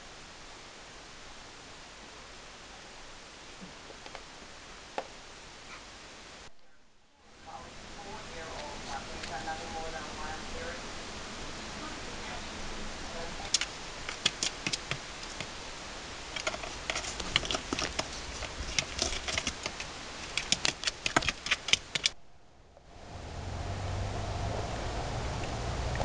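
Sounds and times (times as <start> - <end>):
steady low hiss: 0.0 - 26.0.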